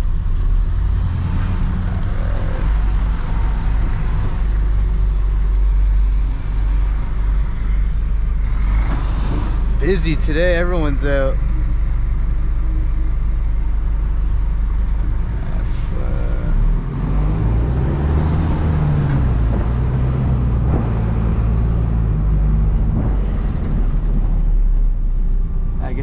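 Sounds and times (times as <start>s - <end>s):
truck diesel engine hum: 0.0s - 26.0s.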